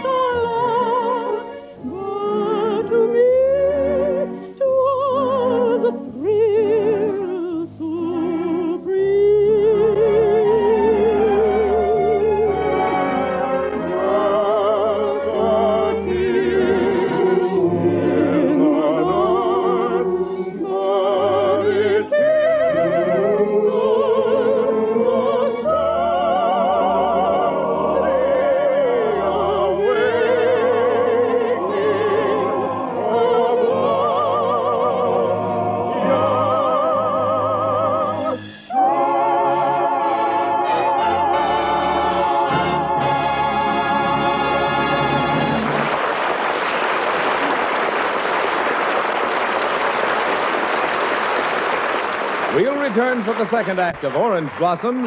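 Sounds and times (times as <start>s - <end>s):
operatic singing with vibrato: 0.0s - 46.0s
orchestral accompaniment: 0.0s - 46.3s.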